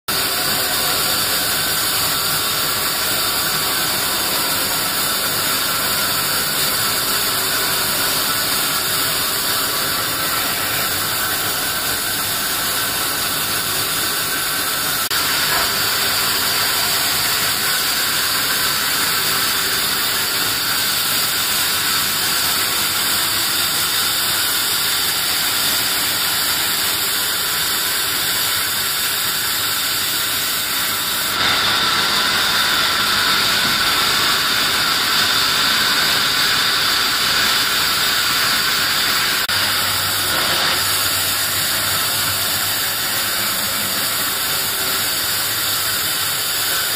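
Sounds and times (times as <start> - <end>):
band saw cutting wood: 0.1 - 46.9.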